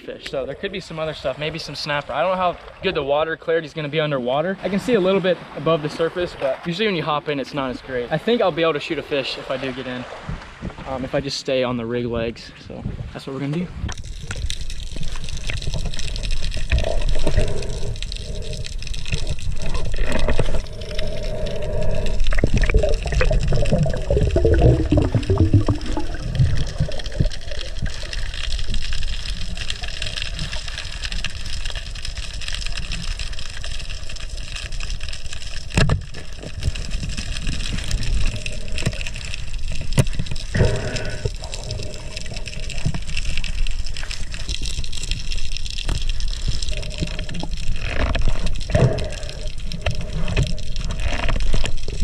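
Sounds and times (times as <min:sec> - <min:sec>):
muffled underwater rush of water: 0:00.0 - 0:52.0.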